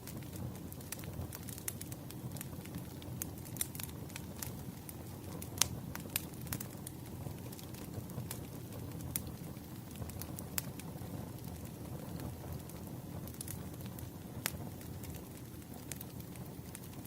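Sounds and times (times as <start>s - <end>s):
fire rumbling: 0.0s - 17.0s
firewood crackling and popping: 0.0s - 17.0s.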